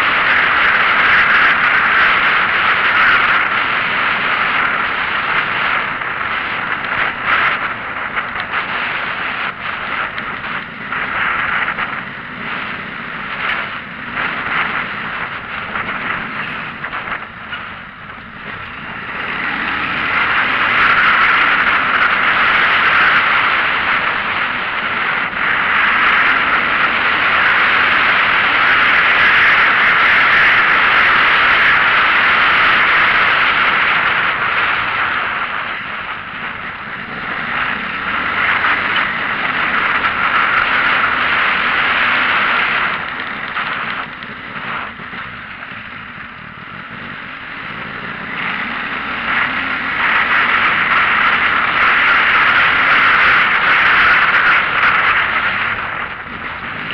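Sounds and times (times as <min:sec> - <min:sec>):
road and wind noise: 0:00.0 - 0:56.9.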